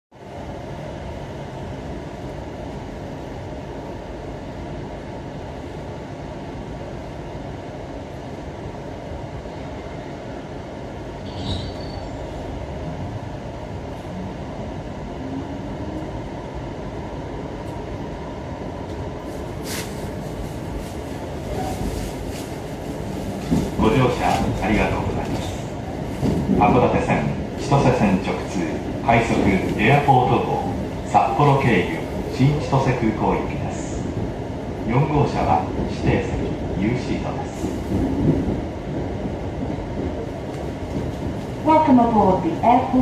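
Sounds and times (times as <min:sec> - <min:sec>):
train carriage rumble: 0:00.1 - 0:43.0.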